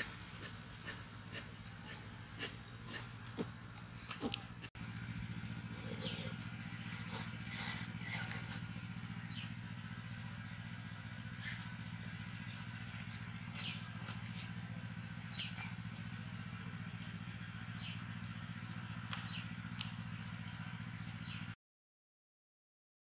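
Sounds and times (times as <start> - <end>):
low motor-like drone: 0.0 - 21.5.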